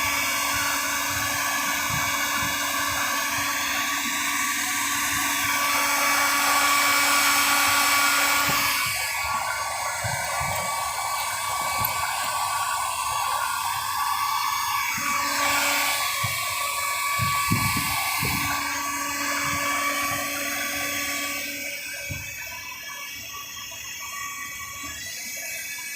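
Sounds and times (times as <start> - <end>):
power tool whining: 0.0 - 25.9.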